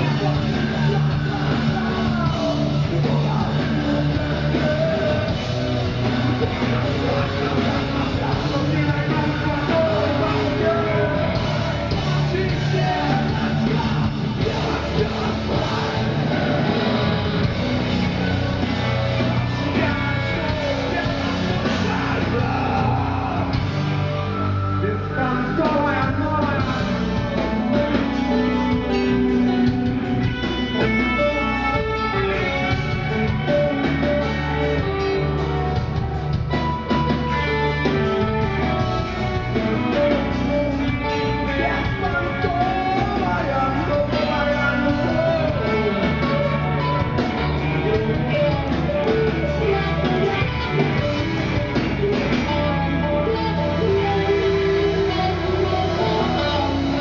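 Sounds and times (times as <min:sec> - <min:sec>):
drums: 0:00.0 - 0:57.0
electric guitars: 0:00.0 - 0:57.0
person singing: 0:00.0 - 0:57.0.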